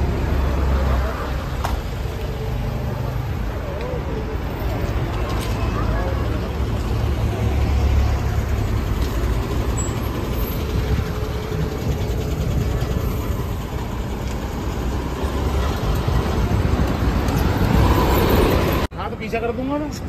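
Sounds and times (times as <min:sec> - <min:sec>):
bus passing: 0:00.0 - 0:19.6
highway traffic rumble: 0:00.0 - 0:20.0.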